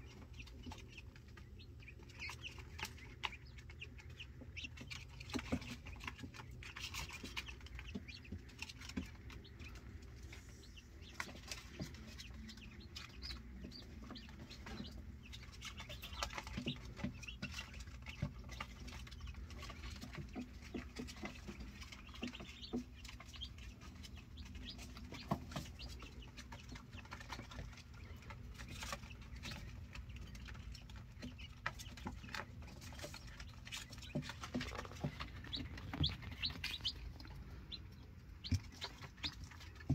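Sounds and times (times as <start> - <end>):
quail chicks peeping: 0.0 - 39.9.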